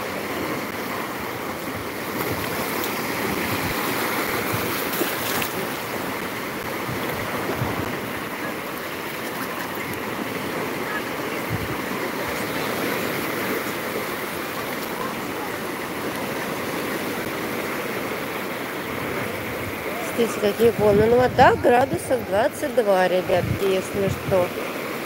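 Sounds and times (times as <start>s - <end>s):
small waves breaking: 0.0s - 25.0s.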